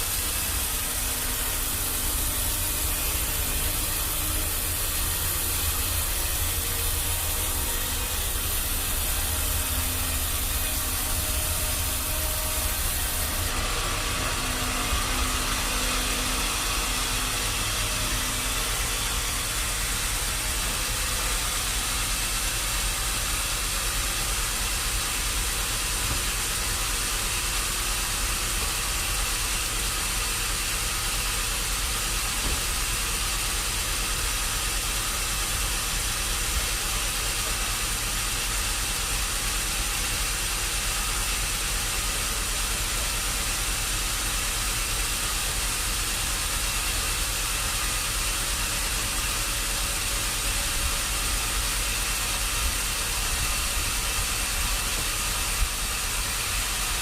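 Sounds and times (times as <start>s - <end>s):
machinery hiss and hum: 0.0s - 57.0s.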